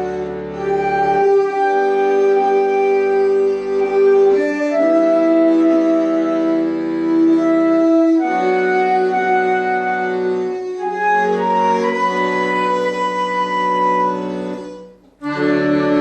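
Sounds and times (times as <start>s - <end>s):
sustained reedy organ chords: 0.0s - 16.0s.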